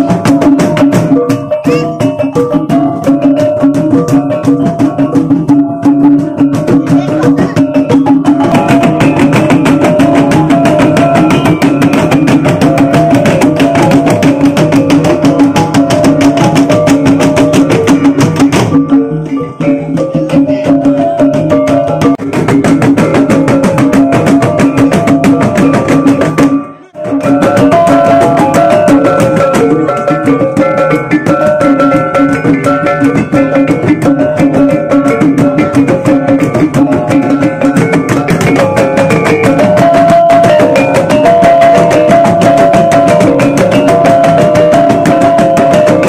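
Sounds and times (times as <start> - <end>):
hand drums beaten fast: 0.0 - 46.0.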